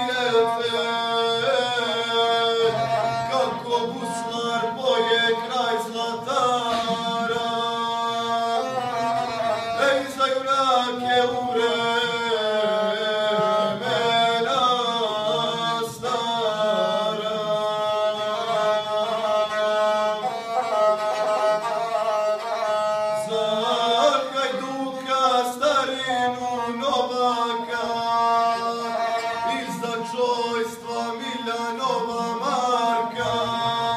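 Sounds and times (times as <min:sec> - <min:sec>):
bowed one-string fiddle: 0:00.0 - 0:33.9
man singing: 0:00.0 - 0:33.9.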